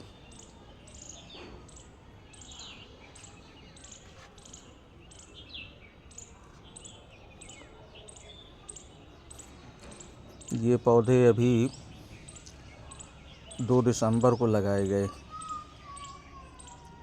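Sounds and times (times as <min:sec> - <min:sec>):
faint steady background noise: 0:00.0 - 0:17.0
lower twittering calls: 0:00.0 - 0:17.0
small birds chirping: 0:00.0 - 0:17.0.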